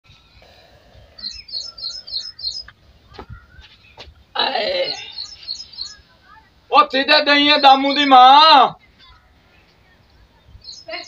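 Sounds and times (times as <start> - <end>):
small bird chirping: 0.2 - 6.5, 7.3 - 11.0.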